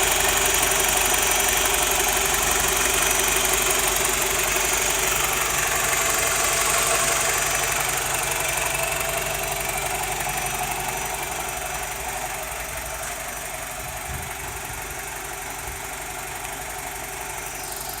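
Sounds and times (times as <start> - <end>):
car engine running with rattle: 0.0 - 18.0.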